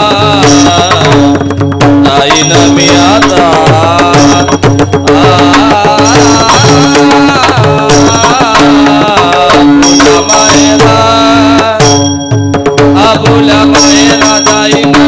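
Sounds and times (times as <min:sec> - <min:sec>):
person singing devotional song: 0:00.0 - 0:12.2, 0:12.9 - 0:15.0
hand drum rhythm: 0:00.0 - 0:15.0.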